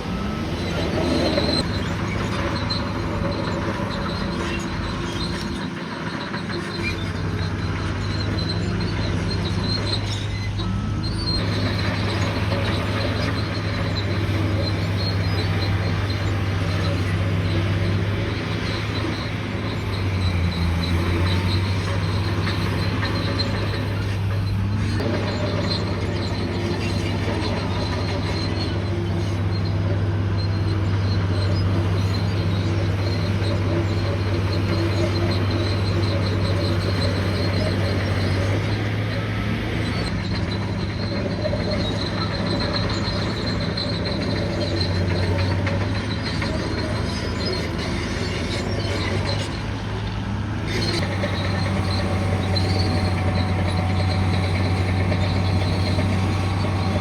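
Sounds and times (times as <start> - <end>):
bulldozer diesel engine droning: 0.0 - 57.0
high-pitched squeal of steel tracks: 0.0 - 57.0.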